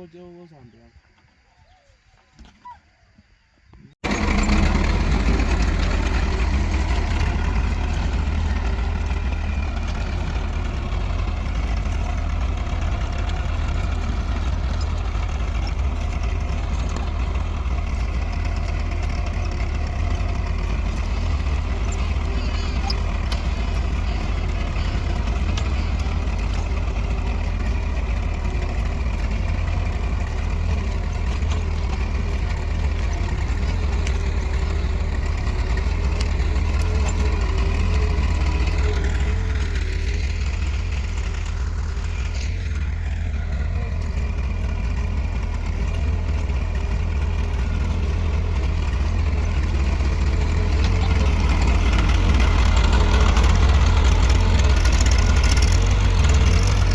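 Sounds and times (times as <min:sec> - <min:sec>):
tractor diesel engine running: 0:04.0 - 0:56.9.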